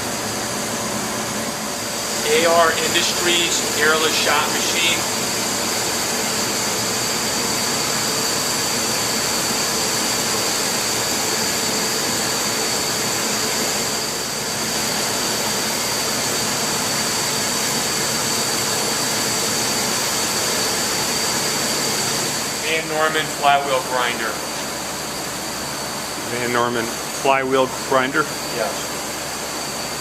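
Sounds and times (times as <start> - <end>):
machinery or ventilation rushing: 0.0 - 30.0.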